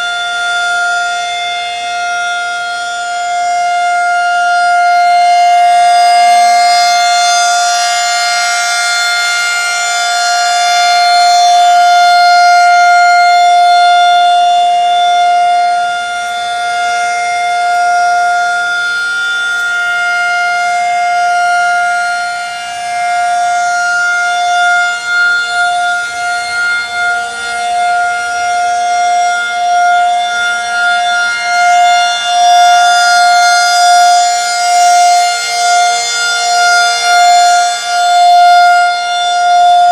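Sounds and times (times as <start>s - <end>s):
warning siren tone: 0.0s - 39.9s.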